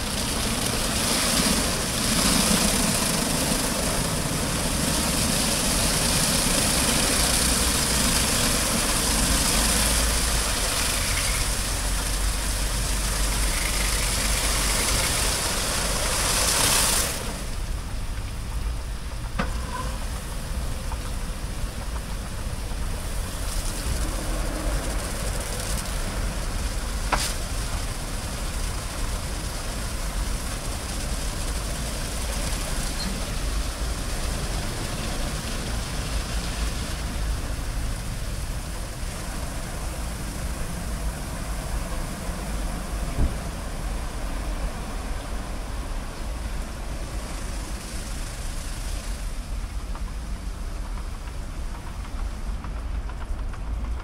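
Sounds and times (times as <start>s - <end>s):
water spray and spinning brushes: 0.0s - 18.7s, 19.5s - 53.9s.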